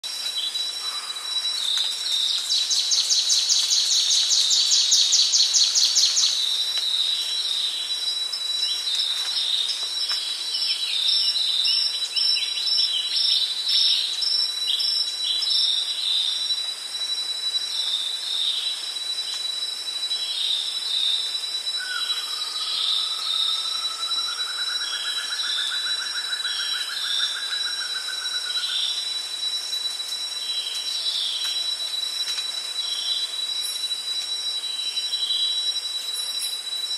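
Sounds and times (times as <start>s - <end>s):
high insect whine: 0.0s - 36.9s
insect calling in rapid pulses: 0.0s - 36.9s.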